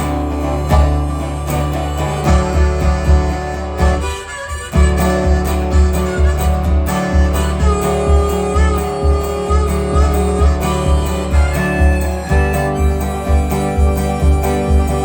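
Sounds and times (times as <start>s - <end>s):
harmonica solo: 0.0s - 15.0s
resonator guitar: 0.0s - 15.0s
steady low beat: 0.0s - 15.0s.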